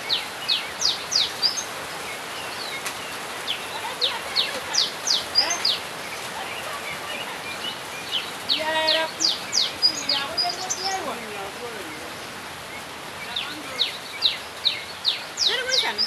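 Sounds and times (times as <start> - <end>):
bird chirping: 0.0 - 16.0
steady outdoor hiss: 0.0 - 16.0.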